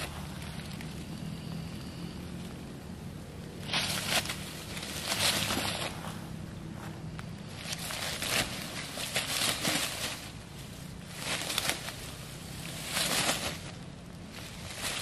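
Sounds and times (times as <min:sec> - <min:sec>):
faint low hum: 0:00.0 - 0:15.0
footsteps in dry leaves: 0:00.0 - 0:15.0.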